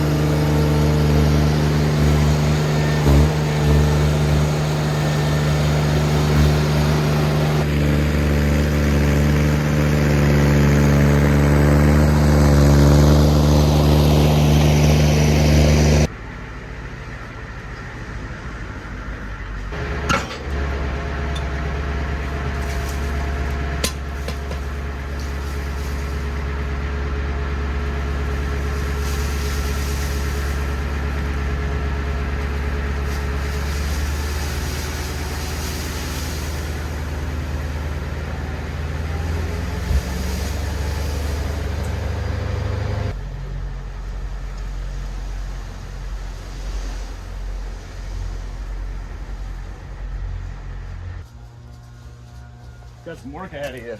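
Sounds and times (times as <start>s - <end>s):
engine-driven equipment running: 0.0s - 53.9s
quieter engine running: 0.0s - 53.9s.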